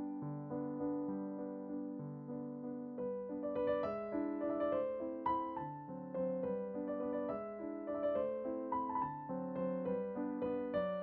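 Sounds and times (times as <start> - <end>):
gentle piano tune: 0.0 - 11.0.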